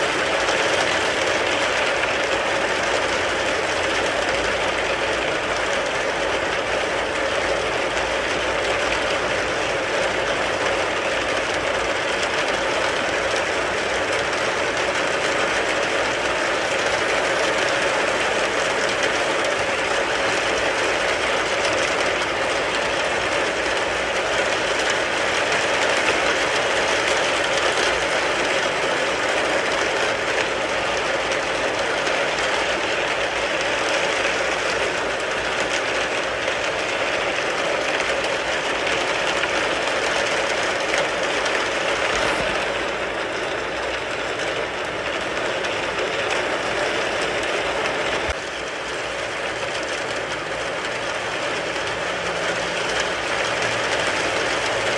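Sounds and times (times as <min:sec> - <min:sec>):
rain pattering on a car: 0:00.0 - 0:54.9.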